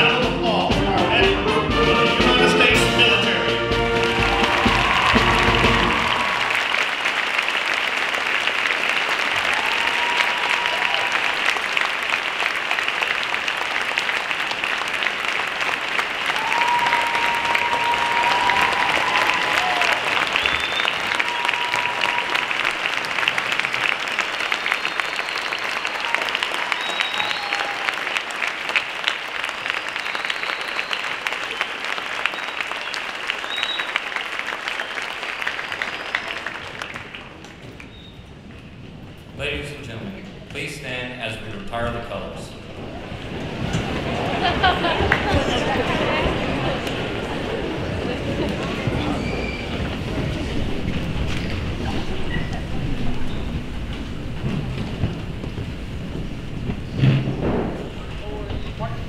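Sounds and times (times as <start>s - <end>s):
crowd applauding: 1.8s - 38.5s, 42.6s - 59.0s.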